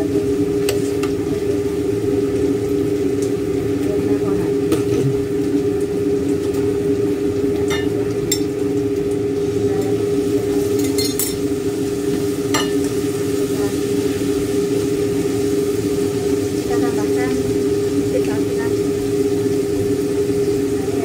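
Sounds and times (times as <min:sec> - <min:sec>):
food sizzling in a wok: 0:00.0 - 0:21.0
steady machine hum: 0:00.0 - 0:21.0.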